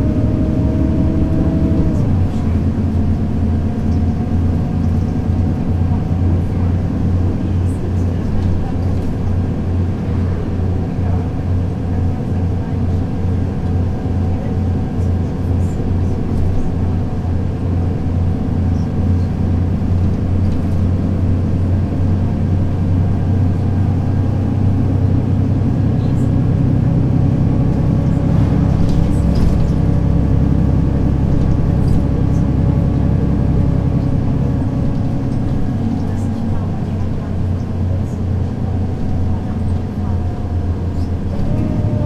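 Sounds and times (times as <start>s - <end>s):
bus diesel engine: 0.0s - 42.0s.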